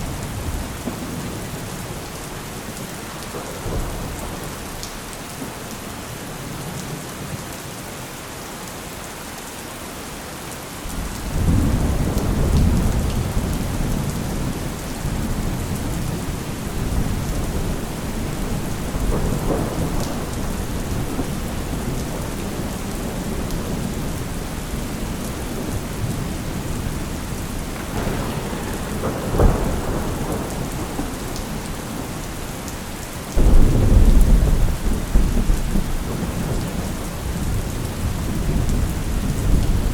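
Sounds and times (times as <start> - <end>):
thunder rumbling and cracking: 0.0 - 5.5, 10.9 - 39.9
steady rain falling: 0.0 - 39.9.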